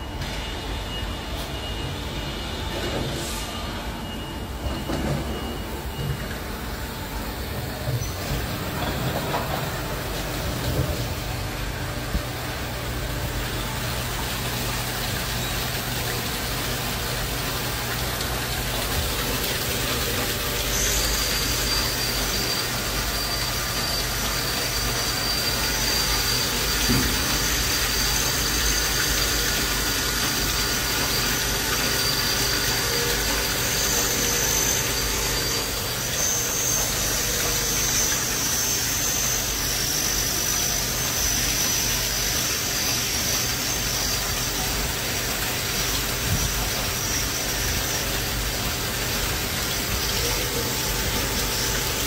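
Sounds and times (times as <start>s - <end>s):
high steady whine: 0.0s - 52.0s
machine mechanical hum: 0.0s - 52.0s.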